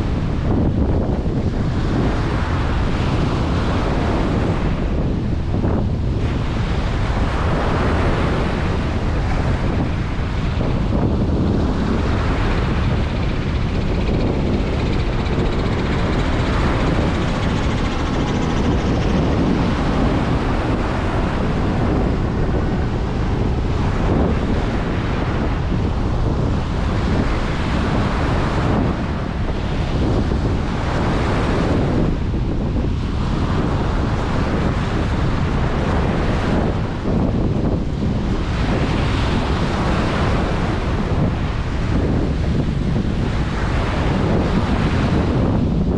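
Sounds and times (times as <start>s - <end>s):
ocean waves breaking: 0.0s - 45.9s
wind buffeting microphone: 0.0s - 45.9s.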